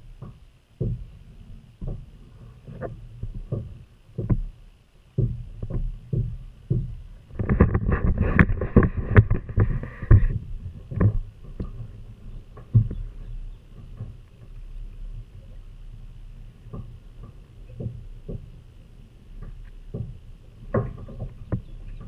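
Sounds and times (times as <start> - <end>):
knocks and bumps on a kayak: 0.0 - 22.0.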